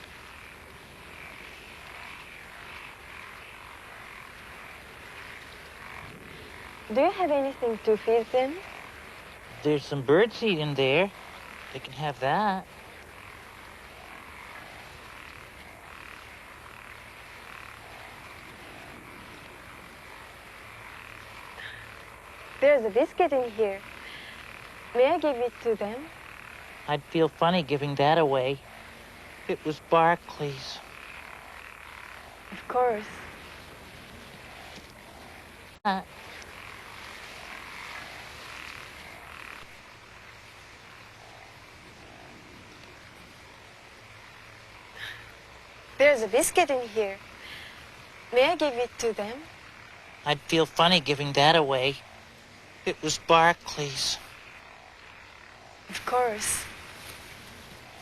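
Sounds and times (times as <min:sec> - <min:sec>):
faint steady hiss: 0:00.0 - 0:58.0
frogs croaking: 0:00.0 - 0:58.0.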